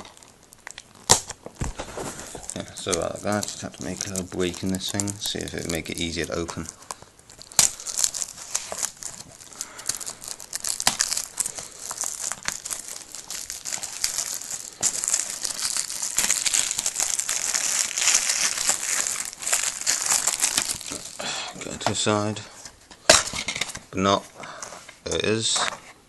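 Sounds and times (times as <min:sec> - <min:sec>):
plastic shrink-wrap crackling: 0:00.0 - 0:22.0.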